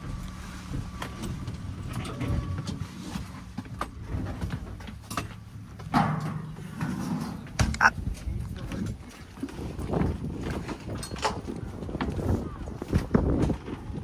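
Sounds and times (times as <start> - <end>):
knocks and shuffles of footsteps: 0.0 - 14.0.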